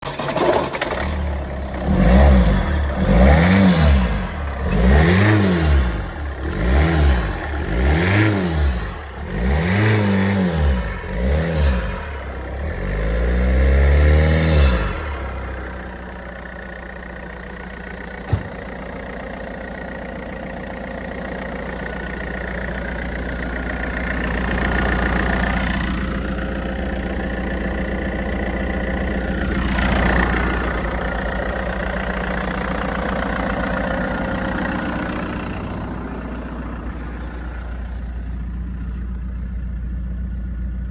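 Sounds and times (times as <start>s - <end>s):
diesel engine revving and idling: 0.0s - 40.9s.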